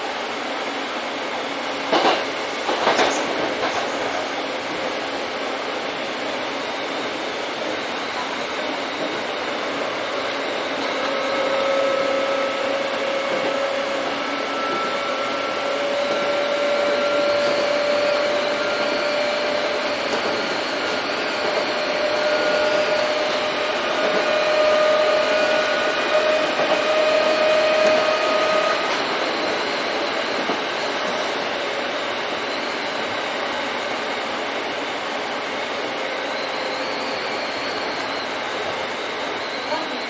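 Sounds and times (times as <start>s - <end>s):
train wheels rumbling: 0.0s - 40.0s
train motor whine: 0.7s - 40.0s.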